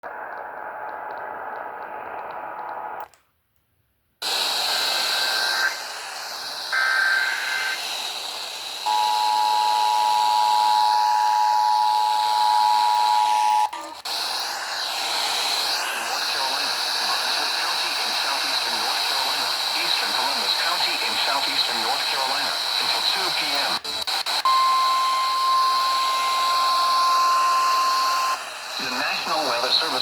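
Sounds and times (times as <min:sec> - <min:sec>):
radio static hiss: 0:00.0 - 0:03.1, 0:04.2 - 0:12.5, 0:13.1 - 0:30.0.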